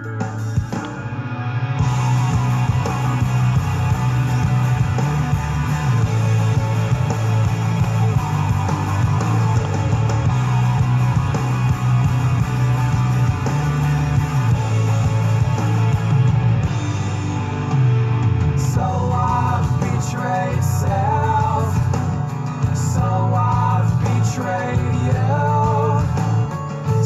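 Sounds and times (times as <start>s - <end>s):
rock music with guitar and bass: 0.0s - 27.0s.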